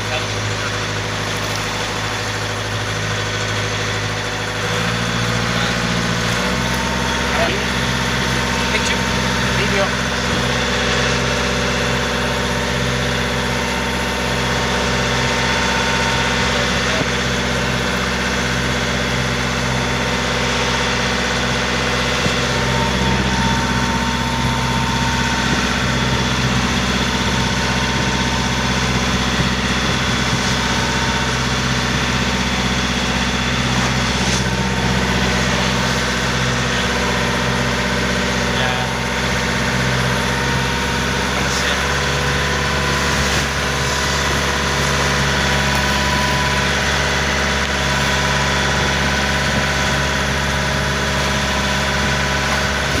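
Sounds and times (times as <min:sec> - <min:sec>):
boat engine humming: 0:00.0 - 0:53.0.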